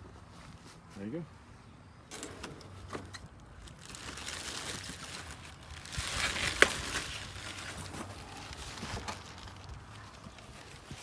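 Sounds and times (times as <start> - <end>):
rustling handling noise: 2.1 - 11.0.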